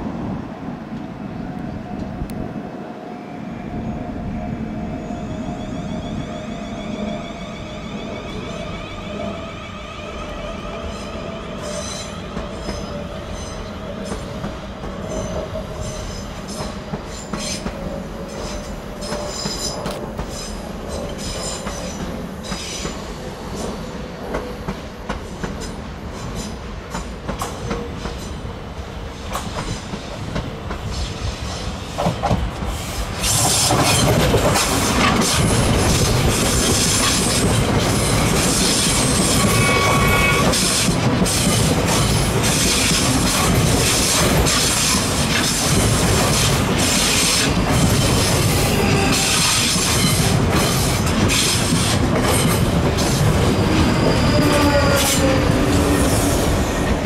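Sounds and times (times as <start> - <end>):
distant train whine: 0.0 - 57.0
train wheels clattering on rails: 10.8 - 57.0.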